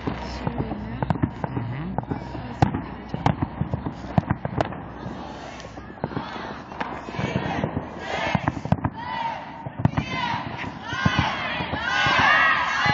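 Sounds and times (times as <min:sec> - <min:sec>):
fireworks bangs and crackles: 0:00.0 - 0:12.9.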